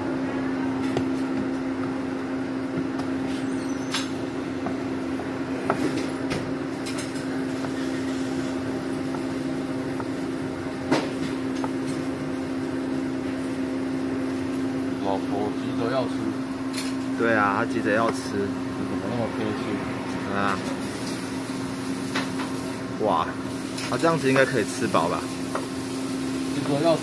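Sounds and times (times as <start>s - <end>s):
kitchen equipment humming: 0.0s - 27.0s.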